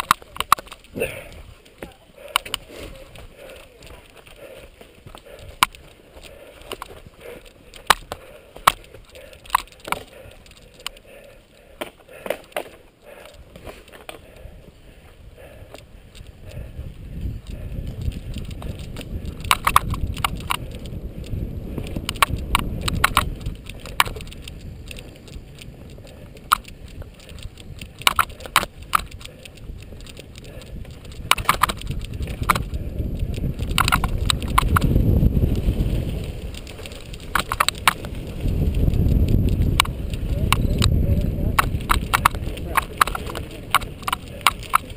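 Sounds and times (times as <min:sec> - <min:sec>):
bike rattling and knocking: 0:00.0 - 0:14.7, 0:15.4 - 0:44.9
tires rolling on dirt and leaves: 0:00.0 - 0:44.9
wind noise: 0:00.0 - 0:44.9.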